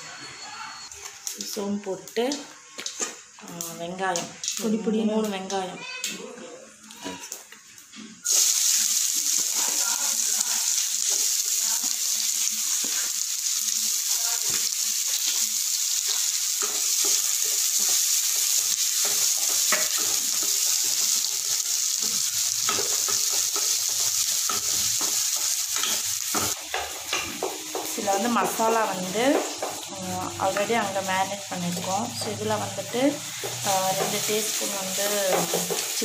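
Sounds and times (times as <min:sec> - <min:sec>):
onions sizzling in oil: 0:00.4 - 0:06.2, 0:06.9 - 0:36.0.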